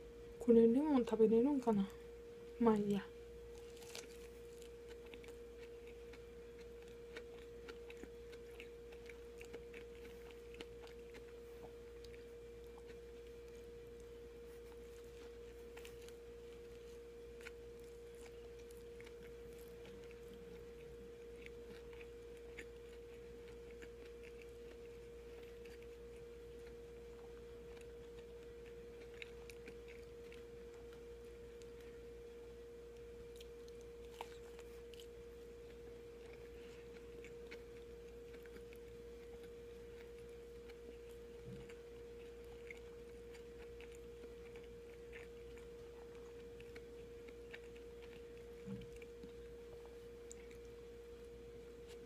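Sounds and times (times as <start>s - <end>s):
steady humming tone: 0.0s - 52.0s
chewing sandwich: 2.5s - 52.0s.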